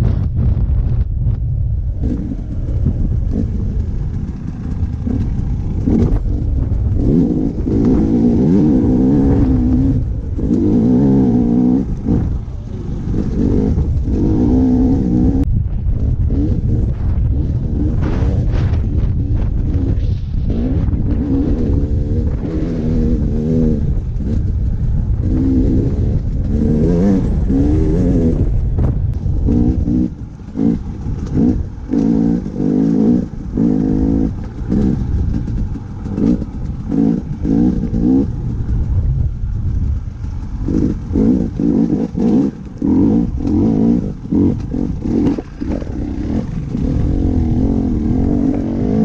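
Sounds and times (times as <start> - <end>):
wind rumble on microphone: 0.0 - 49.0
dirt bike engine revving: 1.8 - 49.0.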